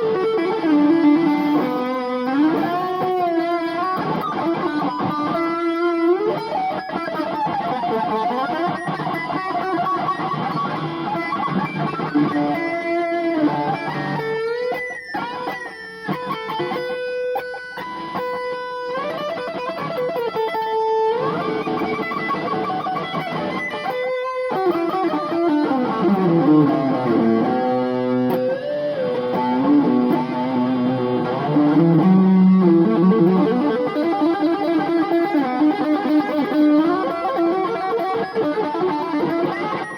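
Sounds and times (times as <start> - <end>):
electric guitar rock solo: 0.0 - 39.9.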